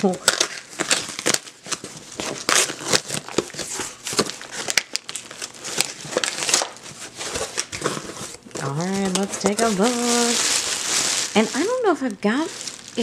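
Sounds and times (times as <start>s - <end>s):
packaging crinkling and rustling: 0.0s - 13.0s
cardboard box tearing: 0.3s - 11.8s.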